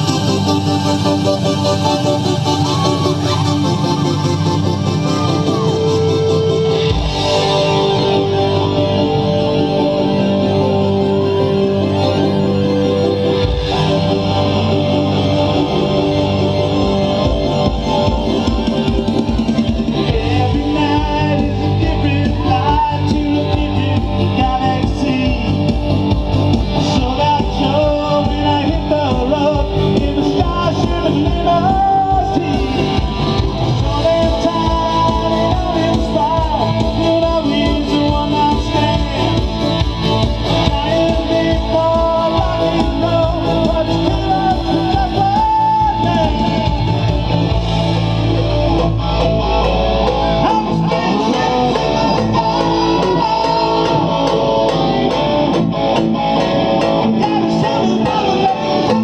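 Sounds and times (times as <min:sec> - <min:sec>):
rock band playing loudly: 0:00.0 - 0:59.0.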